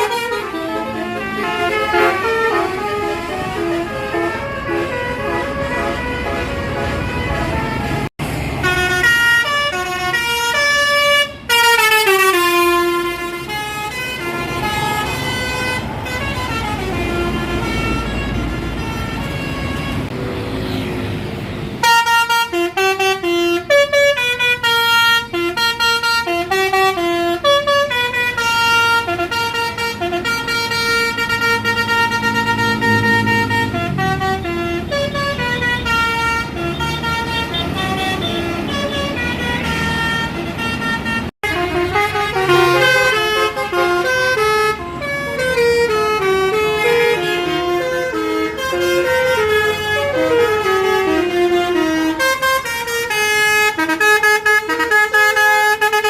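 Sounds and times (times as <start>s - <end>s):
bus melody horn: 0.0s - 20.9s, 21.6s - 56.0s.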